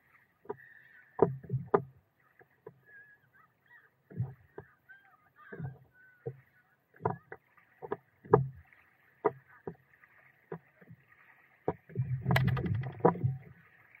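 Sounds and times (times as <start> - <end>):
water splashing: 0.0 - 14.0
waves knocking against board: 0.4 - 2.9, 4.1 - 4.8, 5.4 - 14.0.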